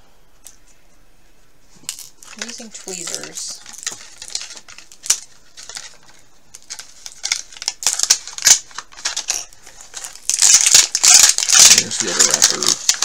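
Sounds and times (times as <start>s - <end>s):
plastic wrapping crinkling: 1.7s - 13.0s.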